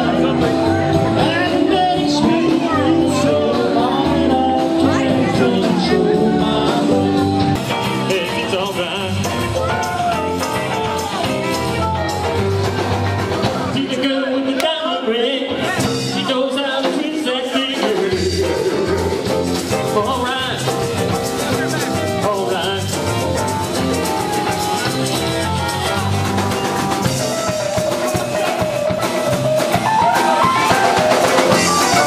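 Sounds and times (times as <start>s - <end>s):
song with guitar: 0.0s - 32.0s.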